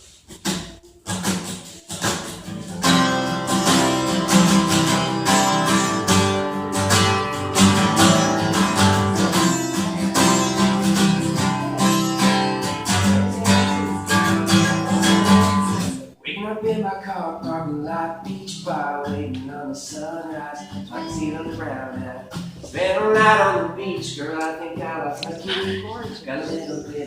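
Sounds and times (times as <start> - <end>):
acoustic guitar strumming chords: 0.1 - 27.0.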